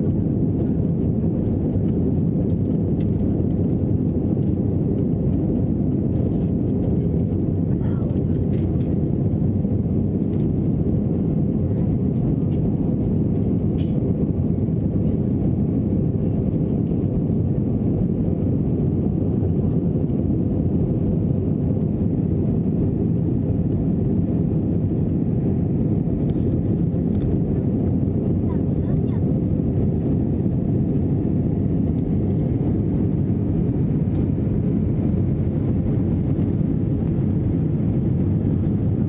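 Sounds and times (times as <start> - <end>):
airliner engines and airflow in cabin: 0.0 - 39.0.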